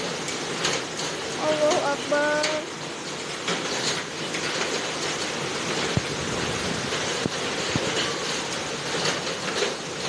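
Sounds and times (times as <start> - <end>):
hailstones knocking: 0.0 - 10.0
heavy rain and hail pouring: 0.0 - 10.0.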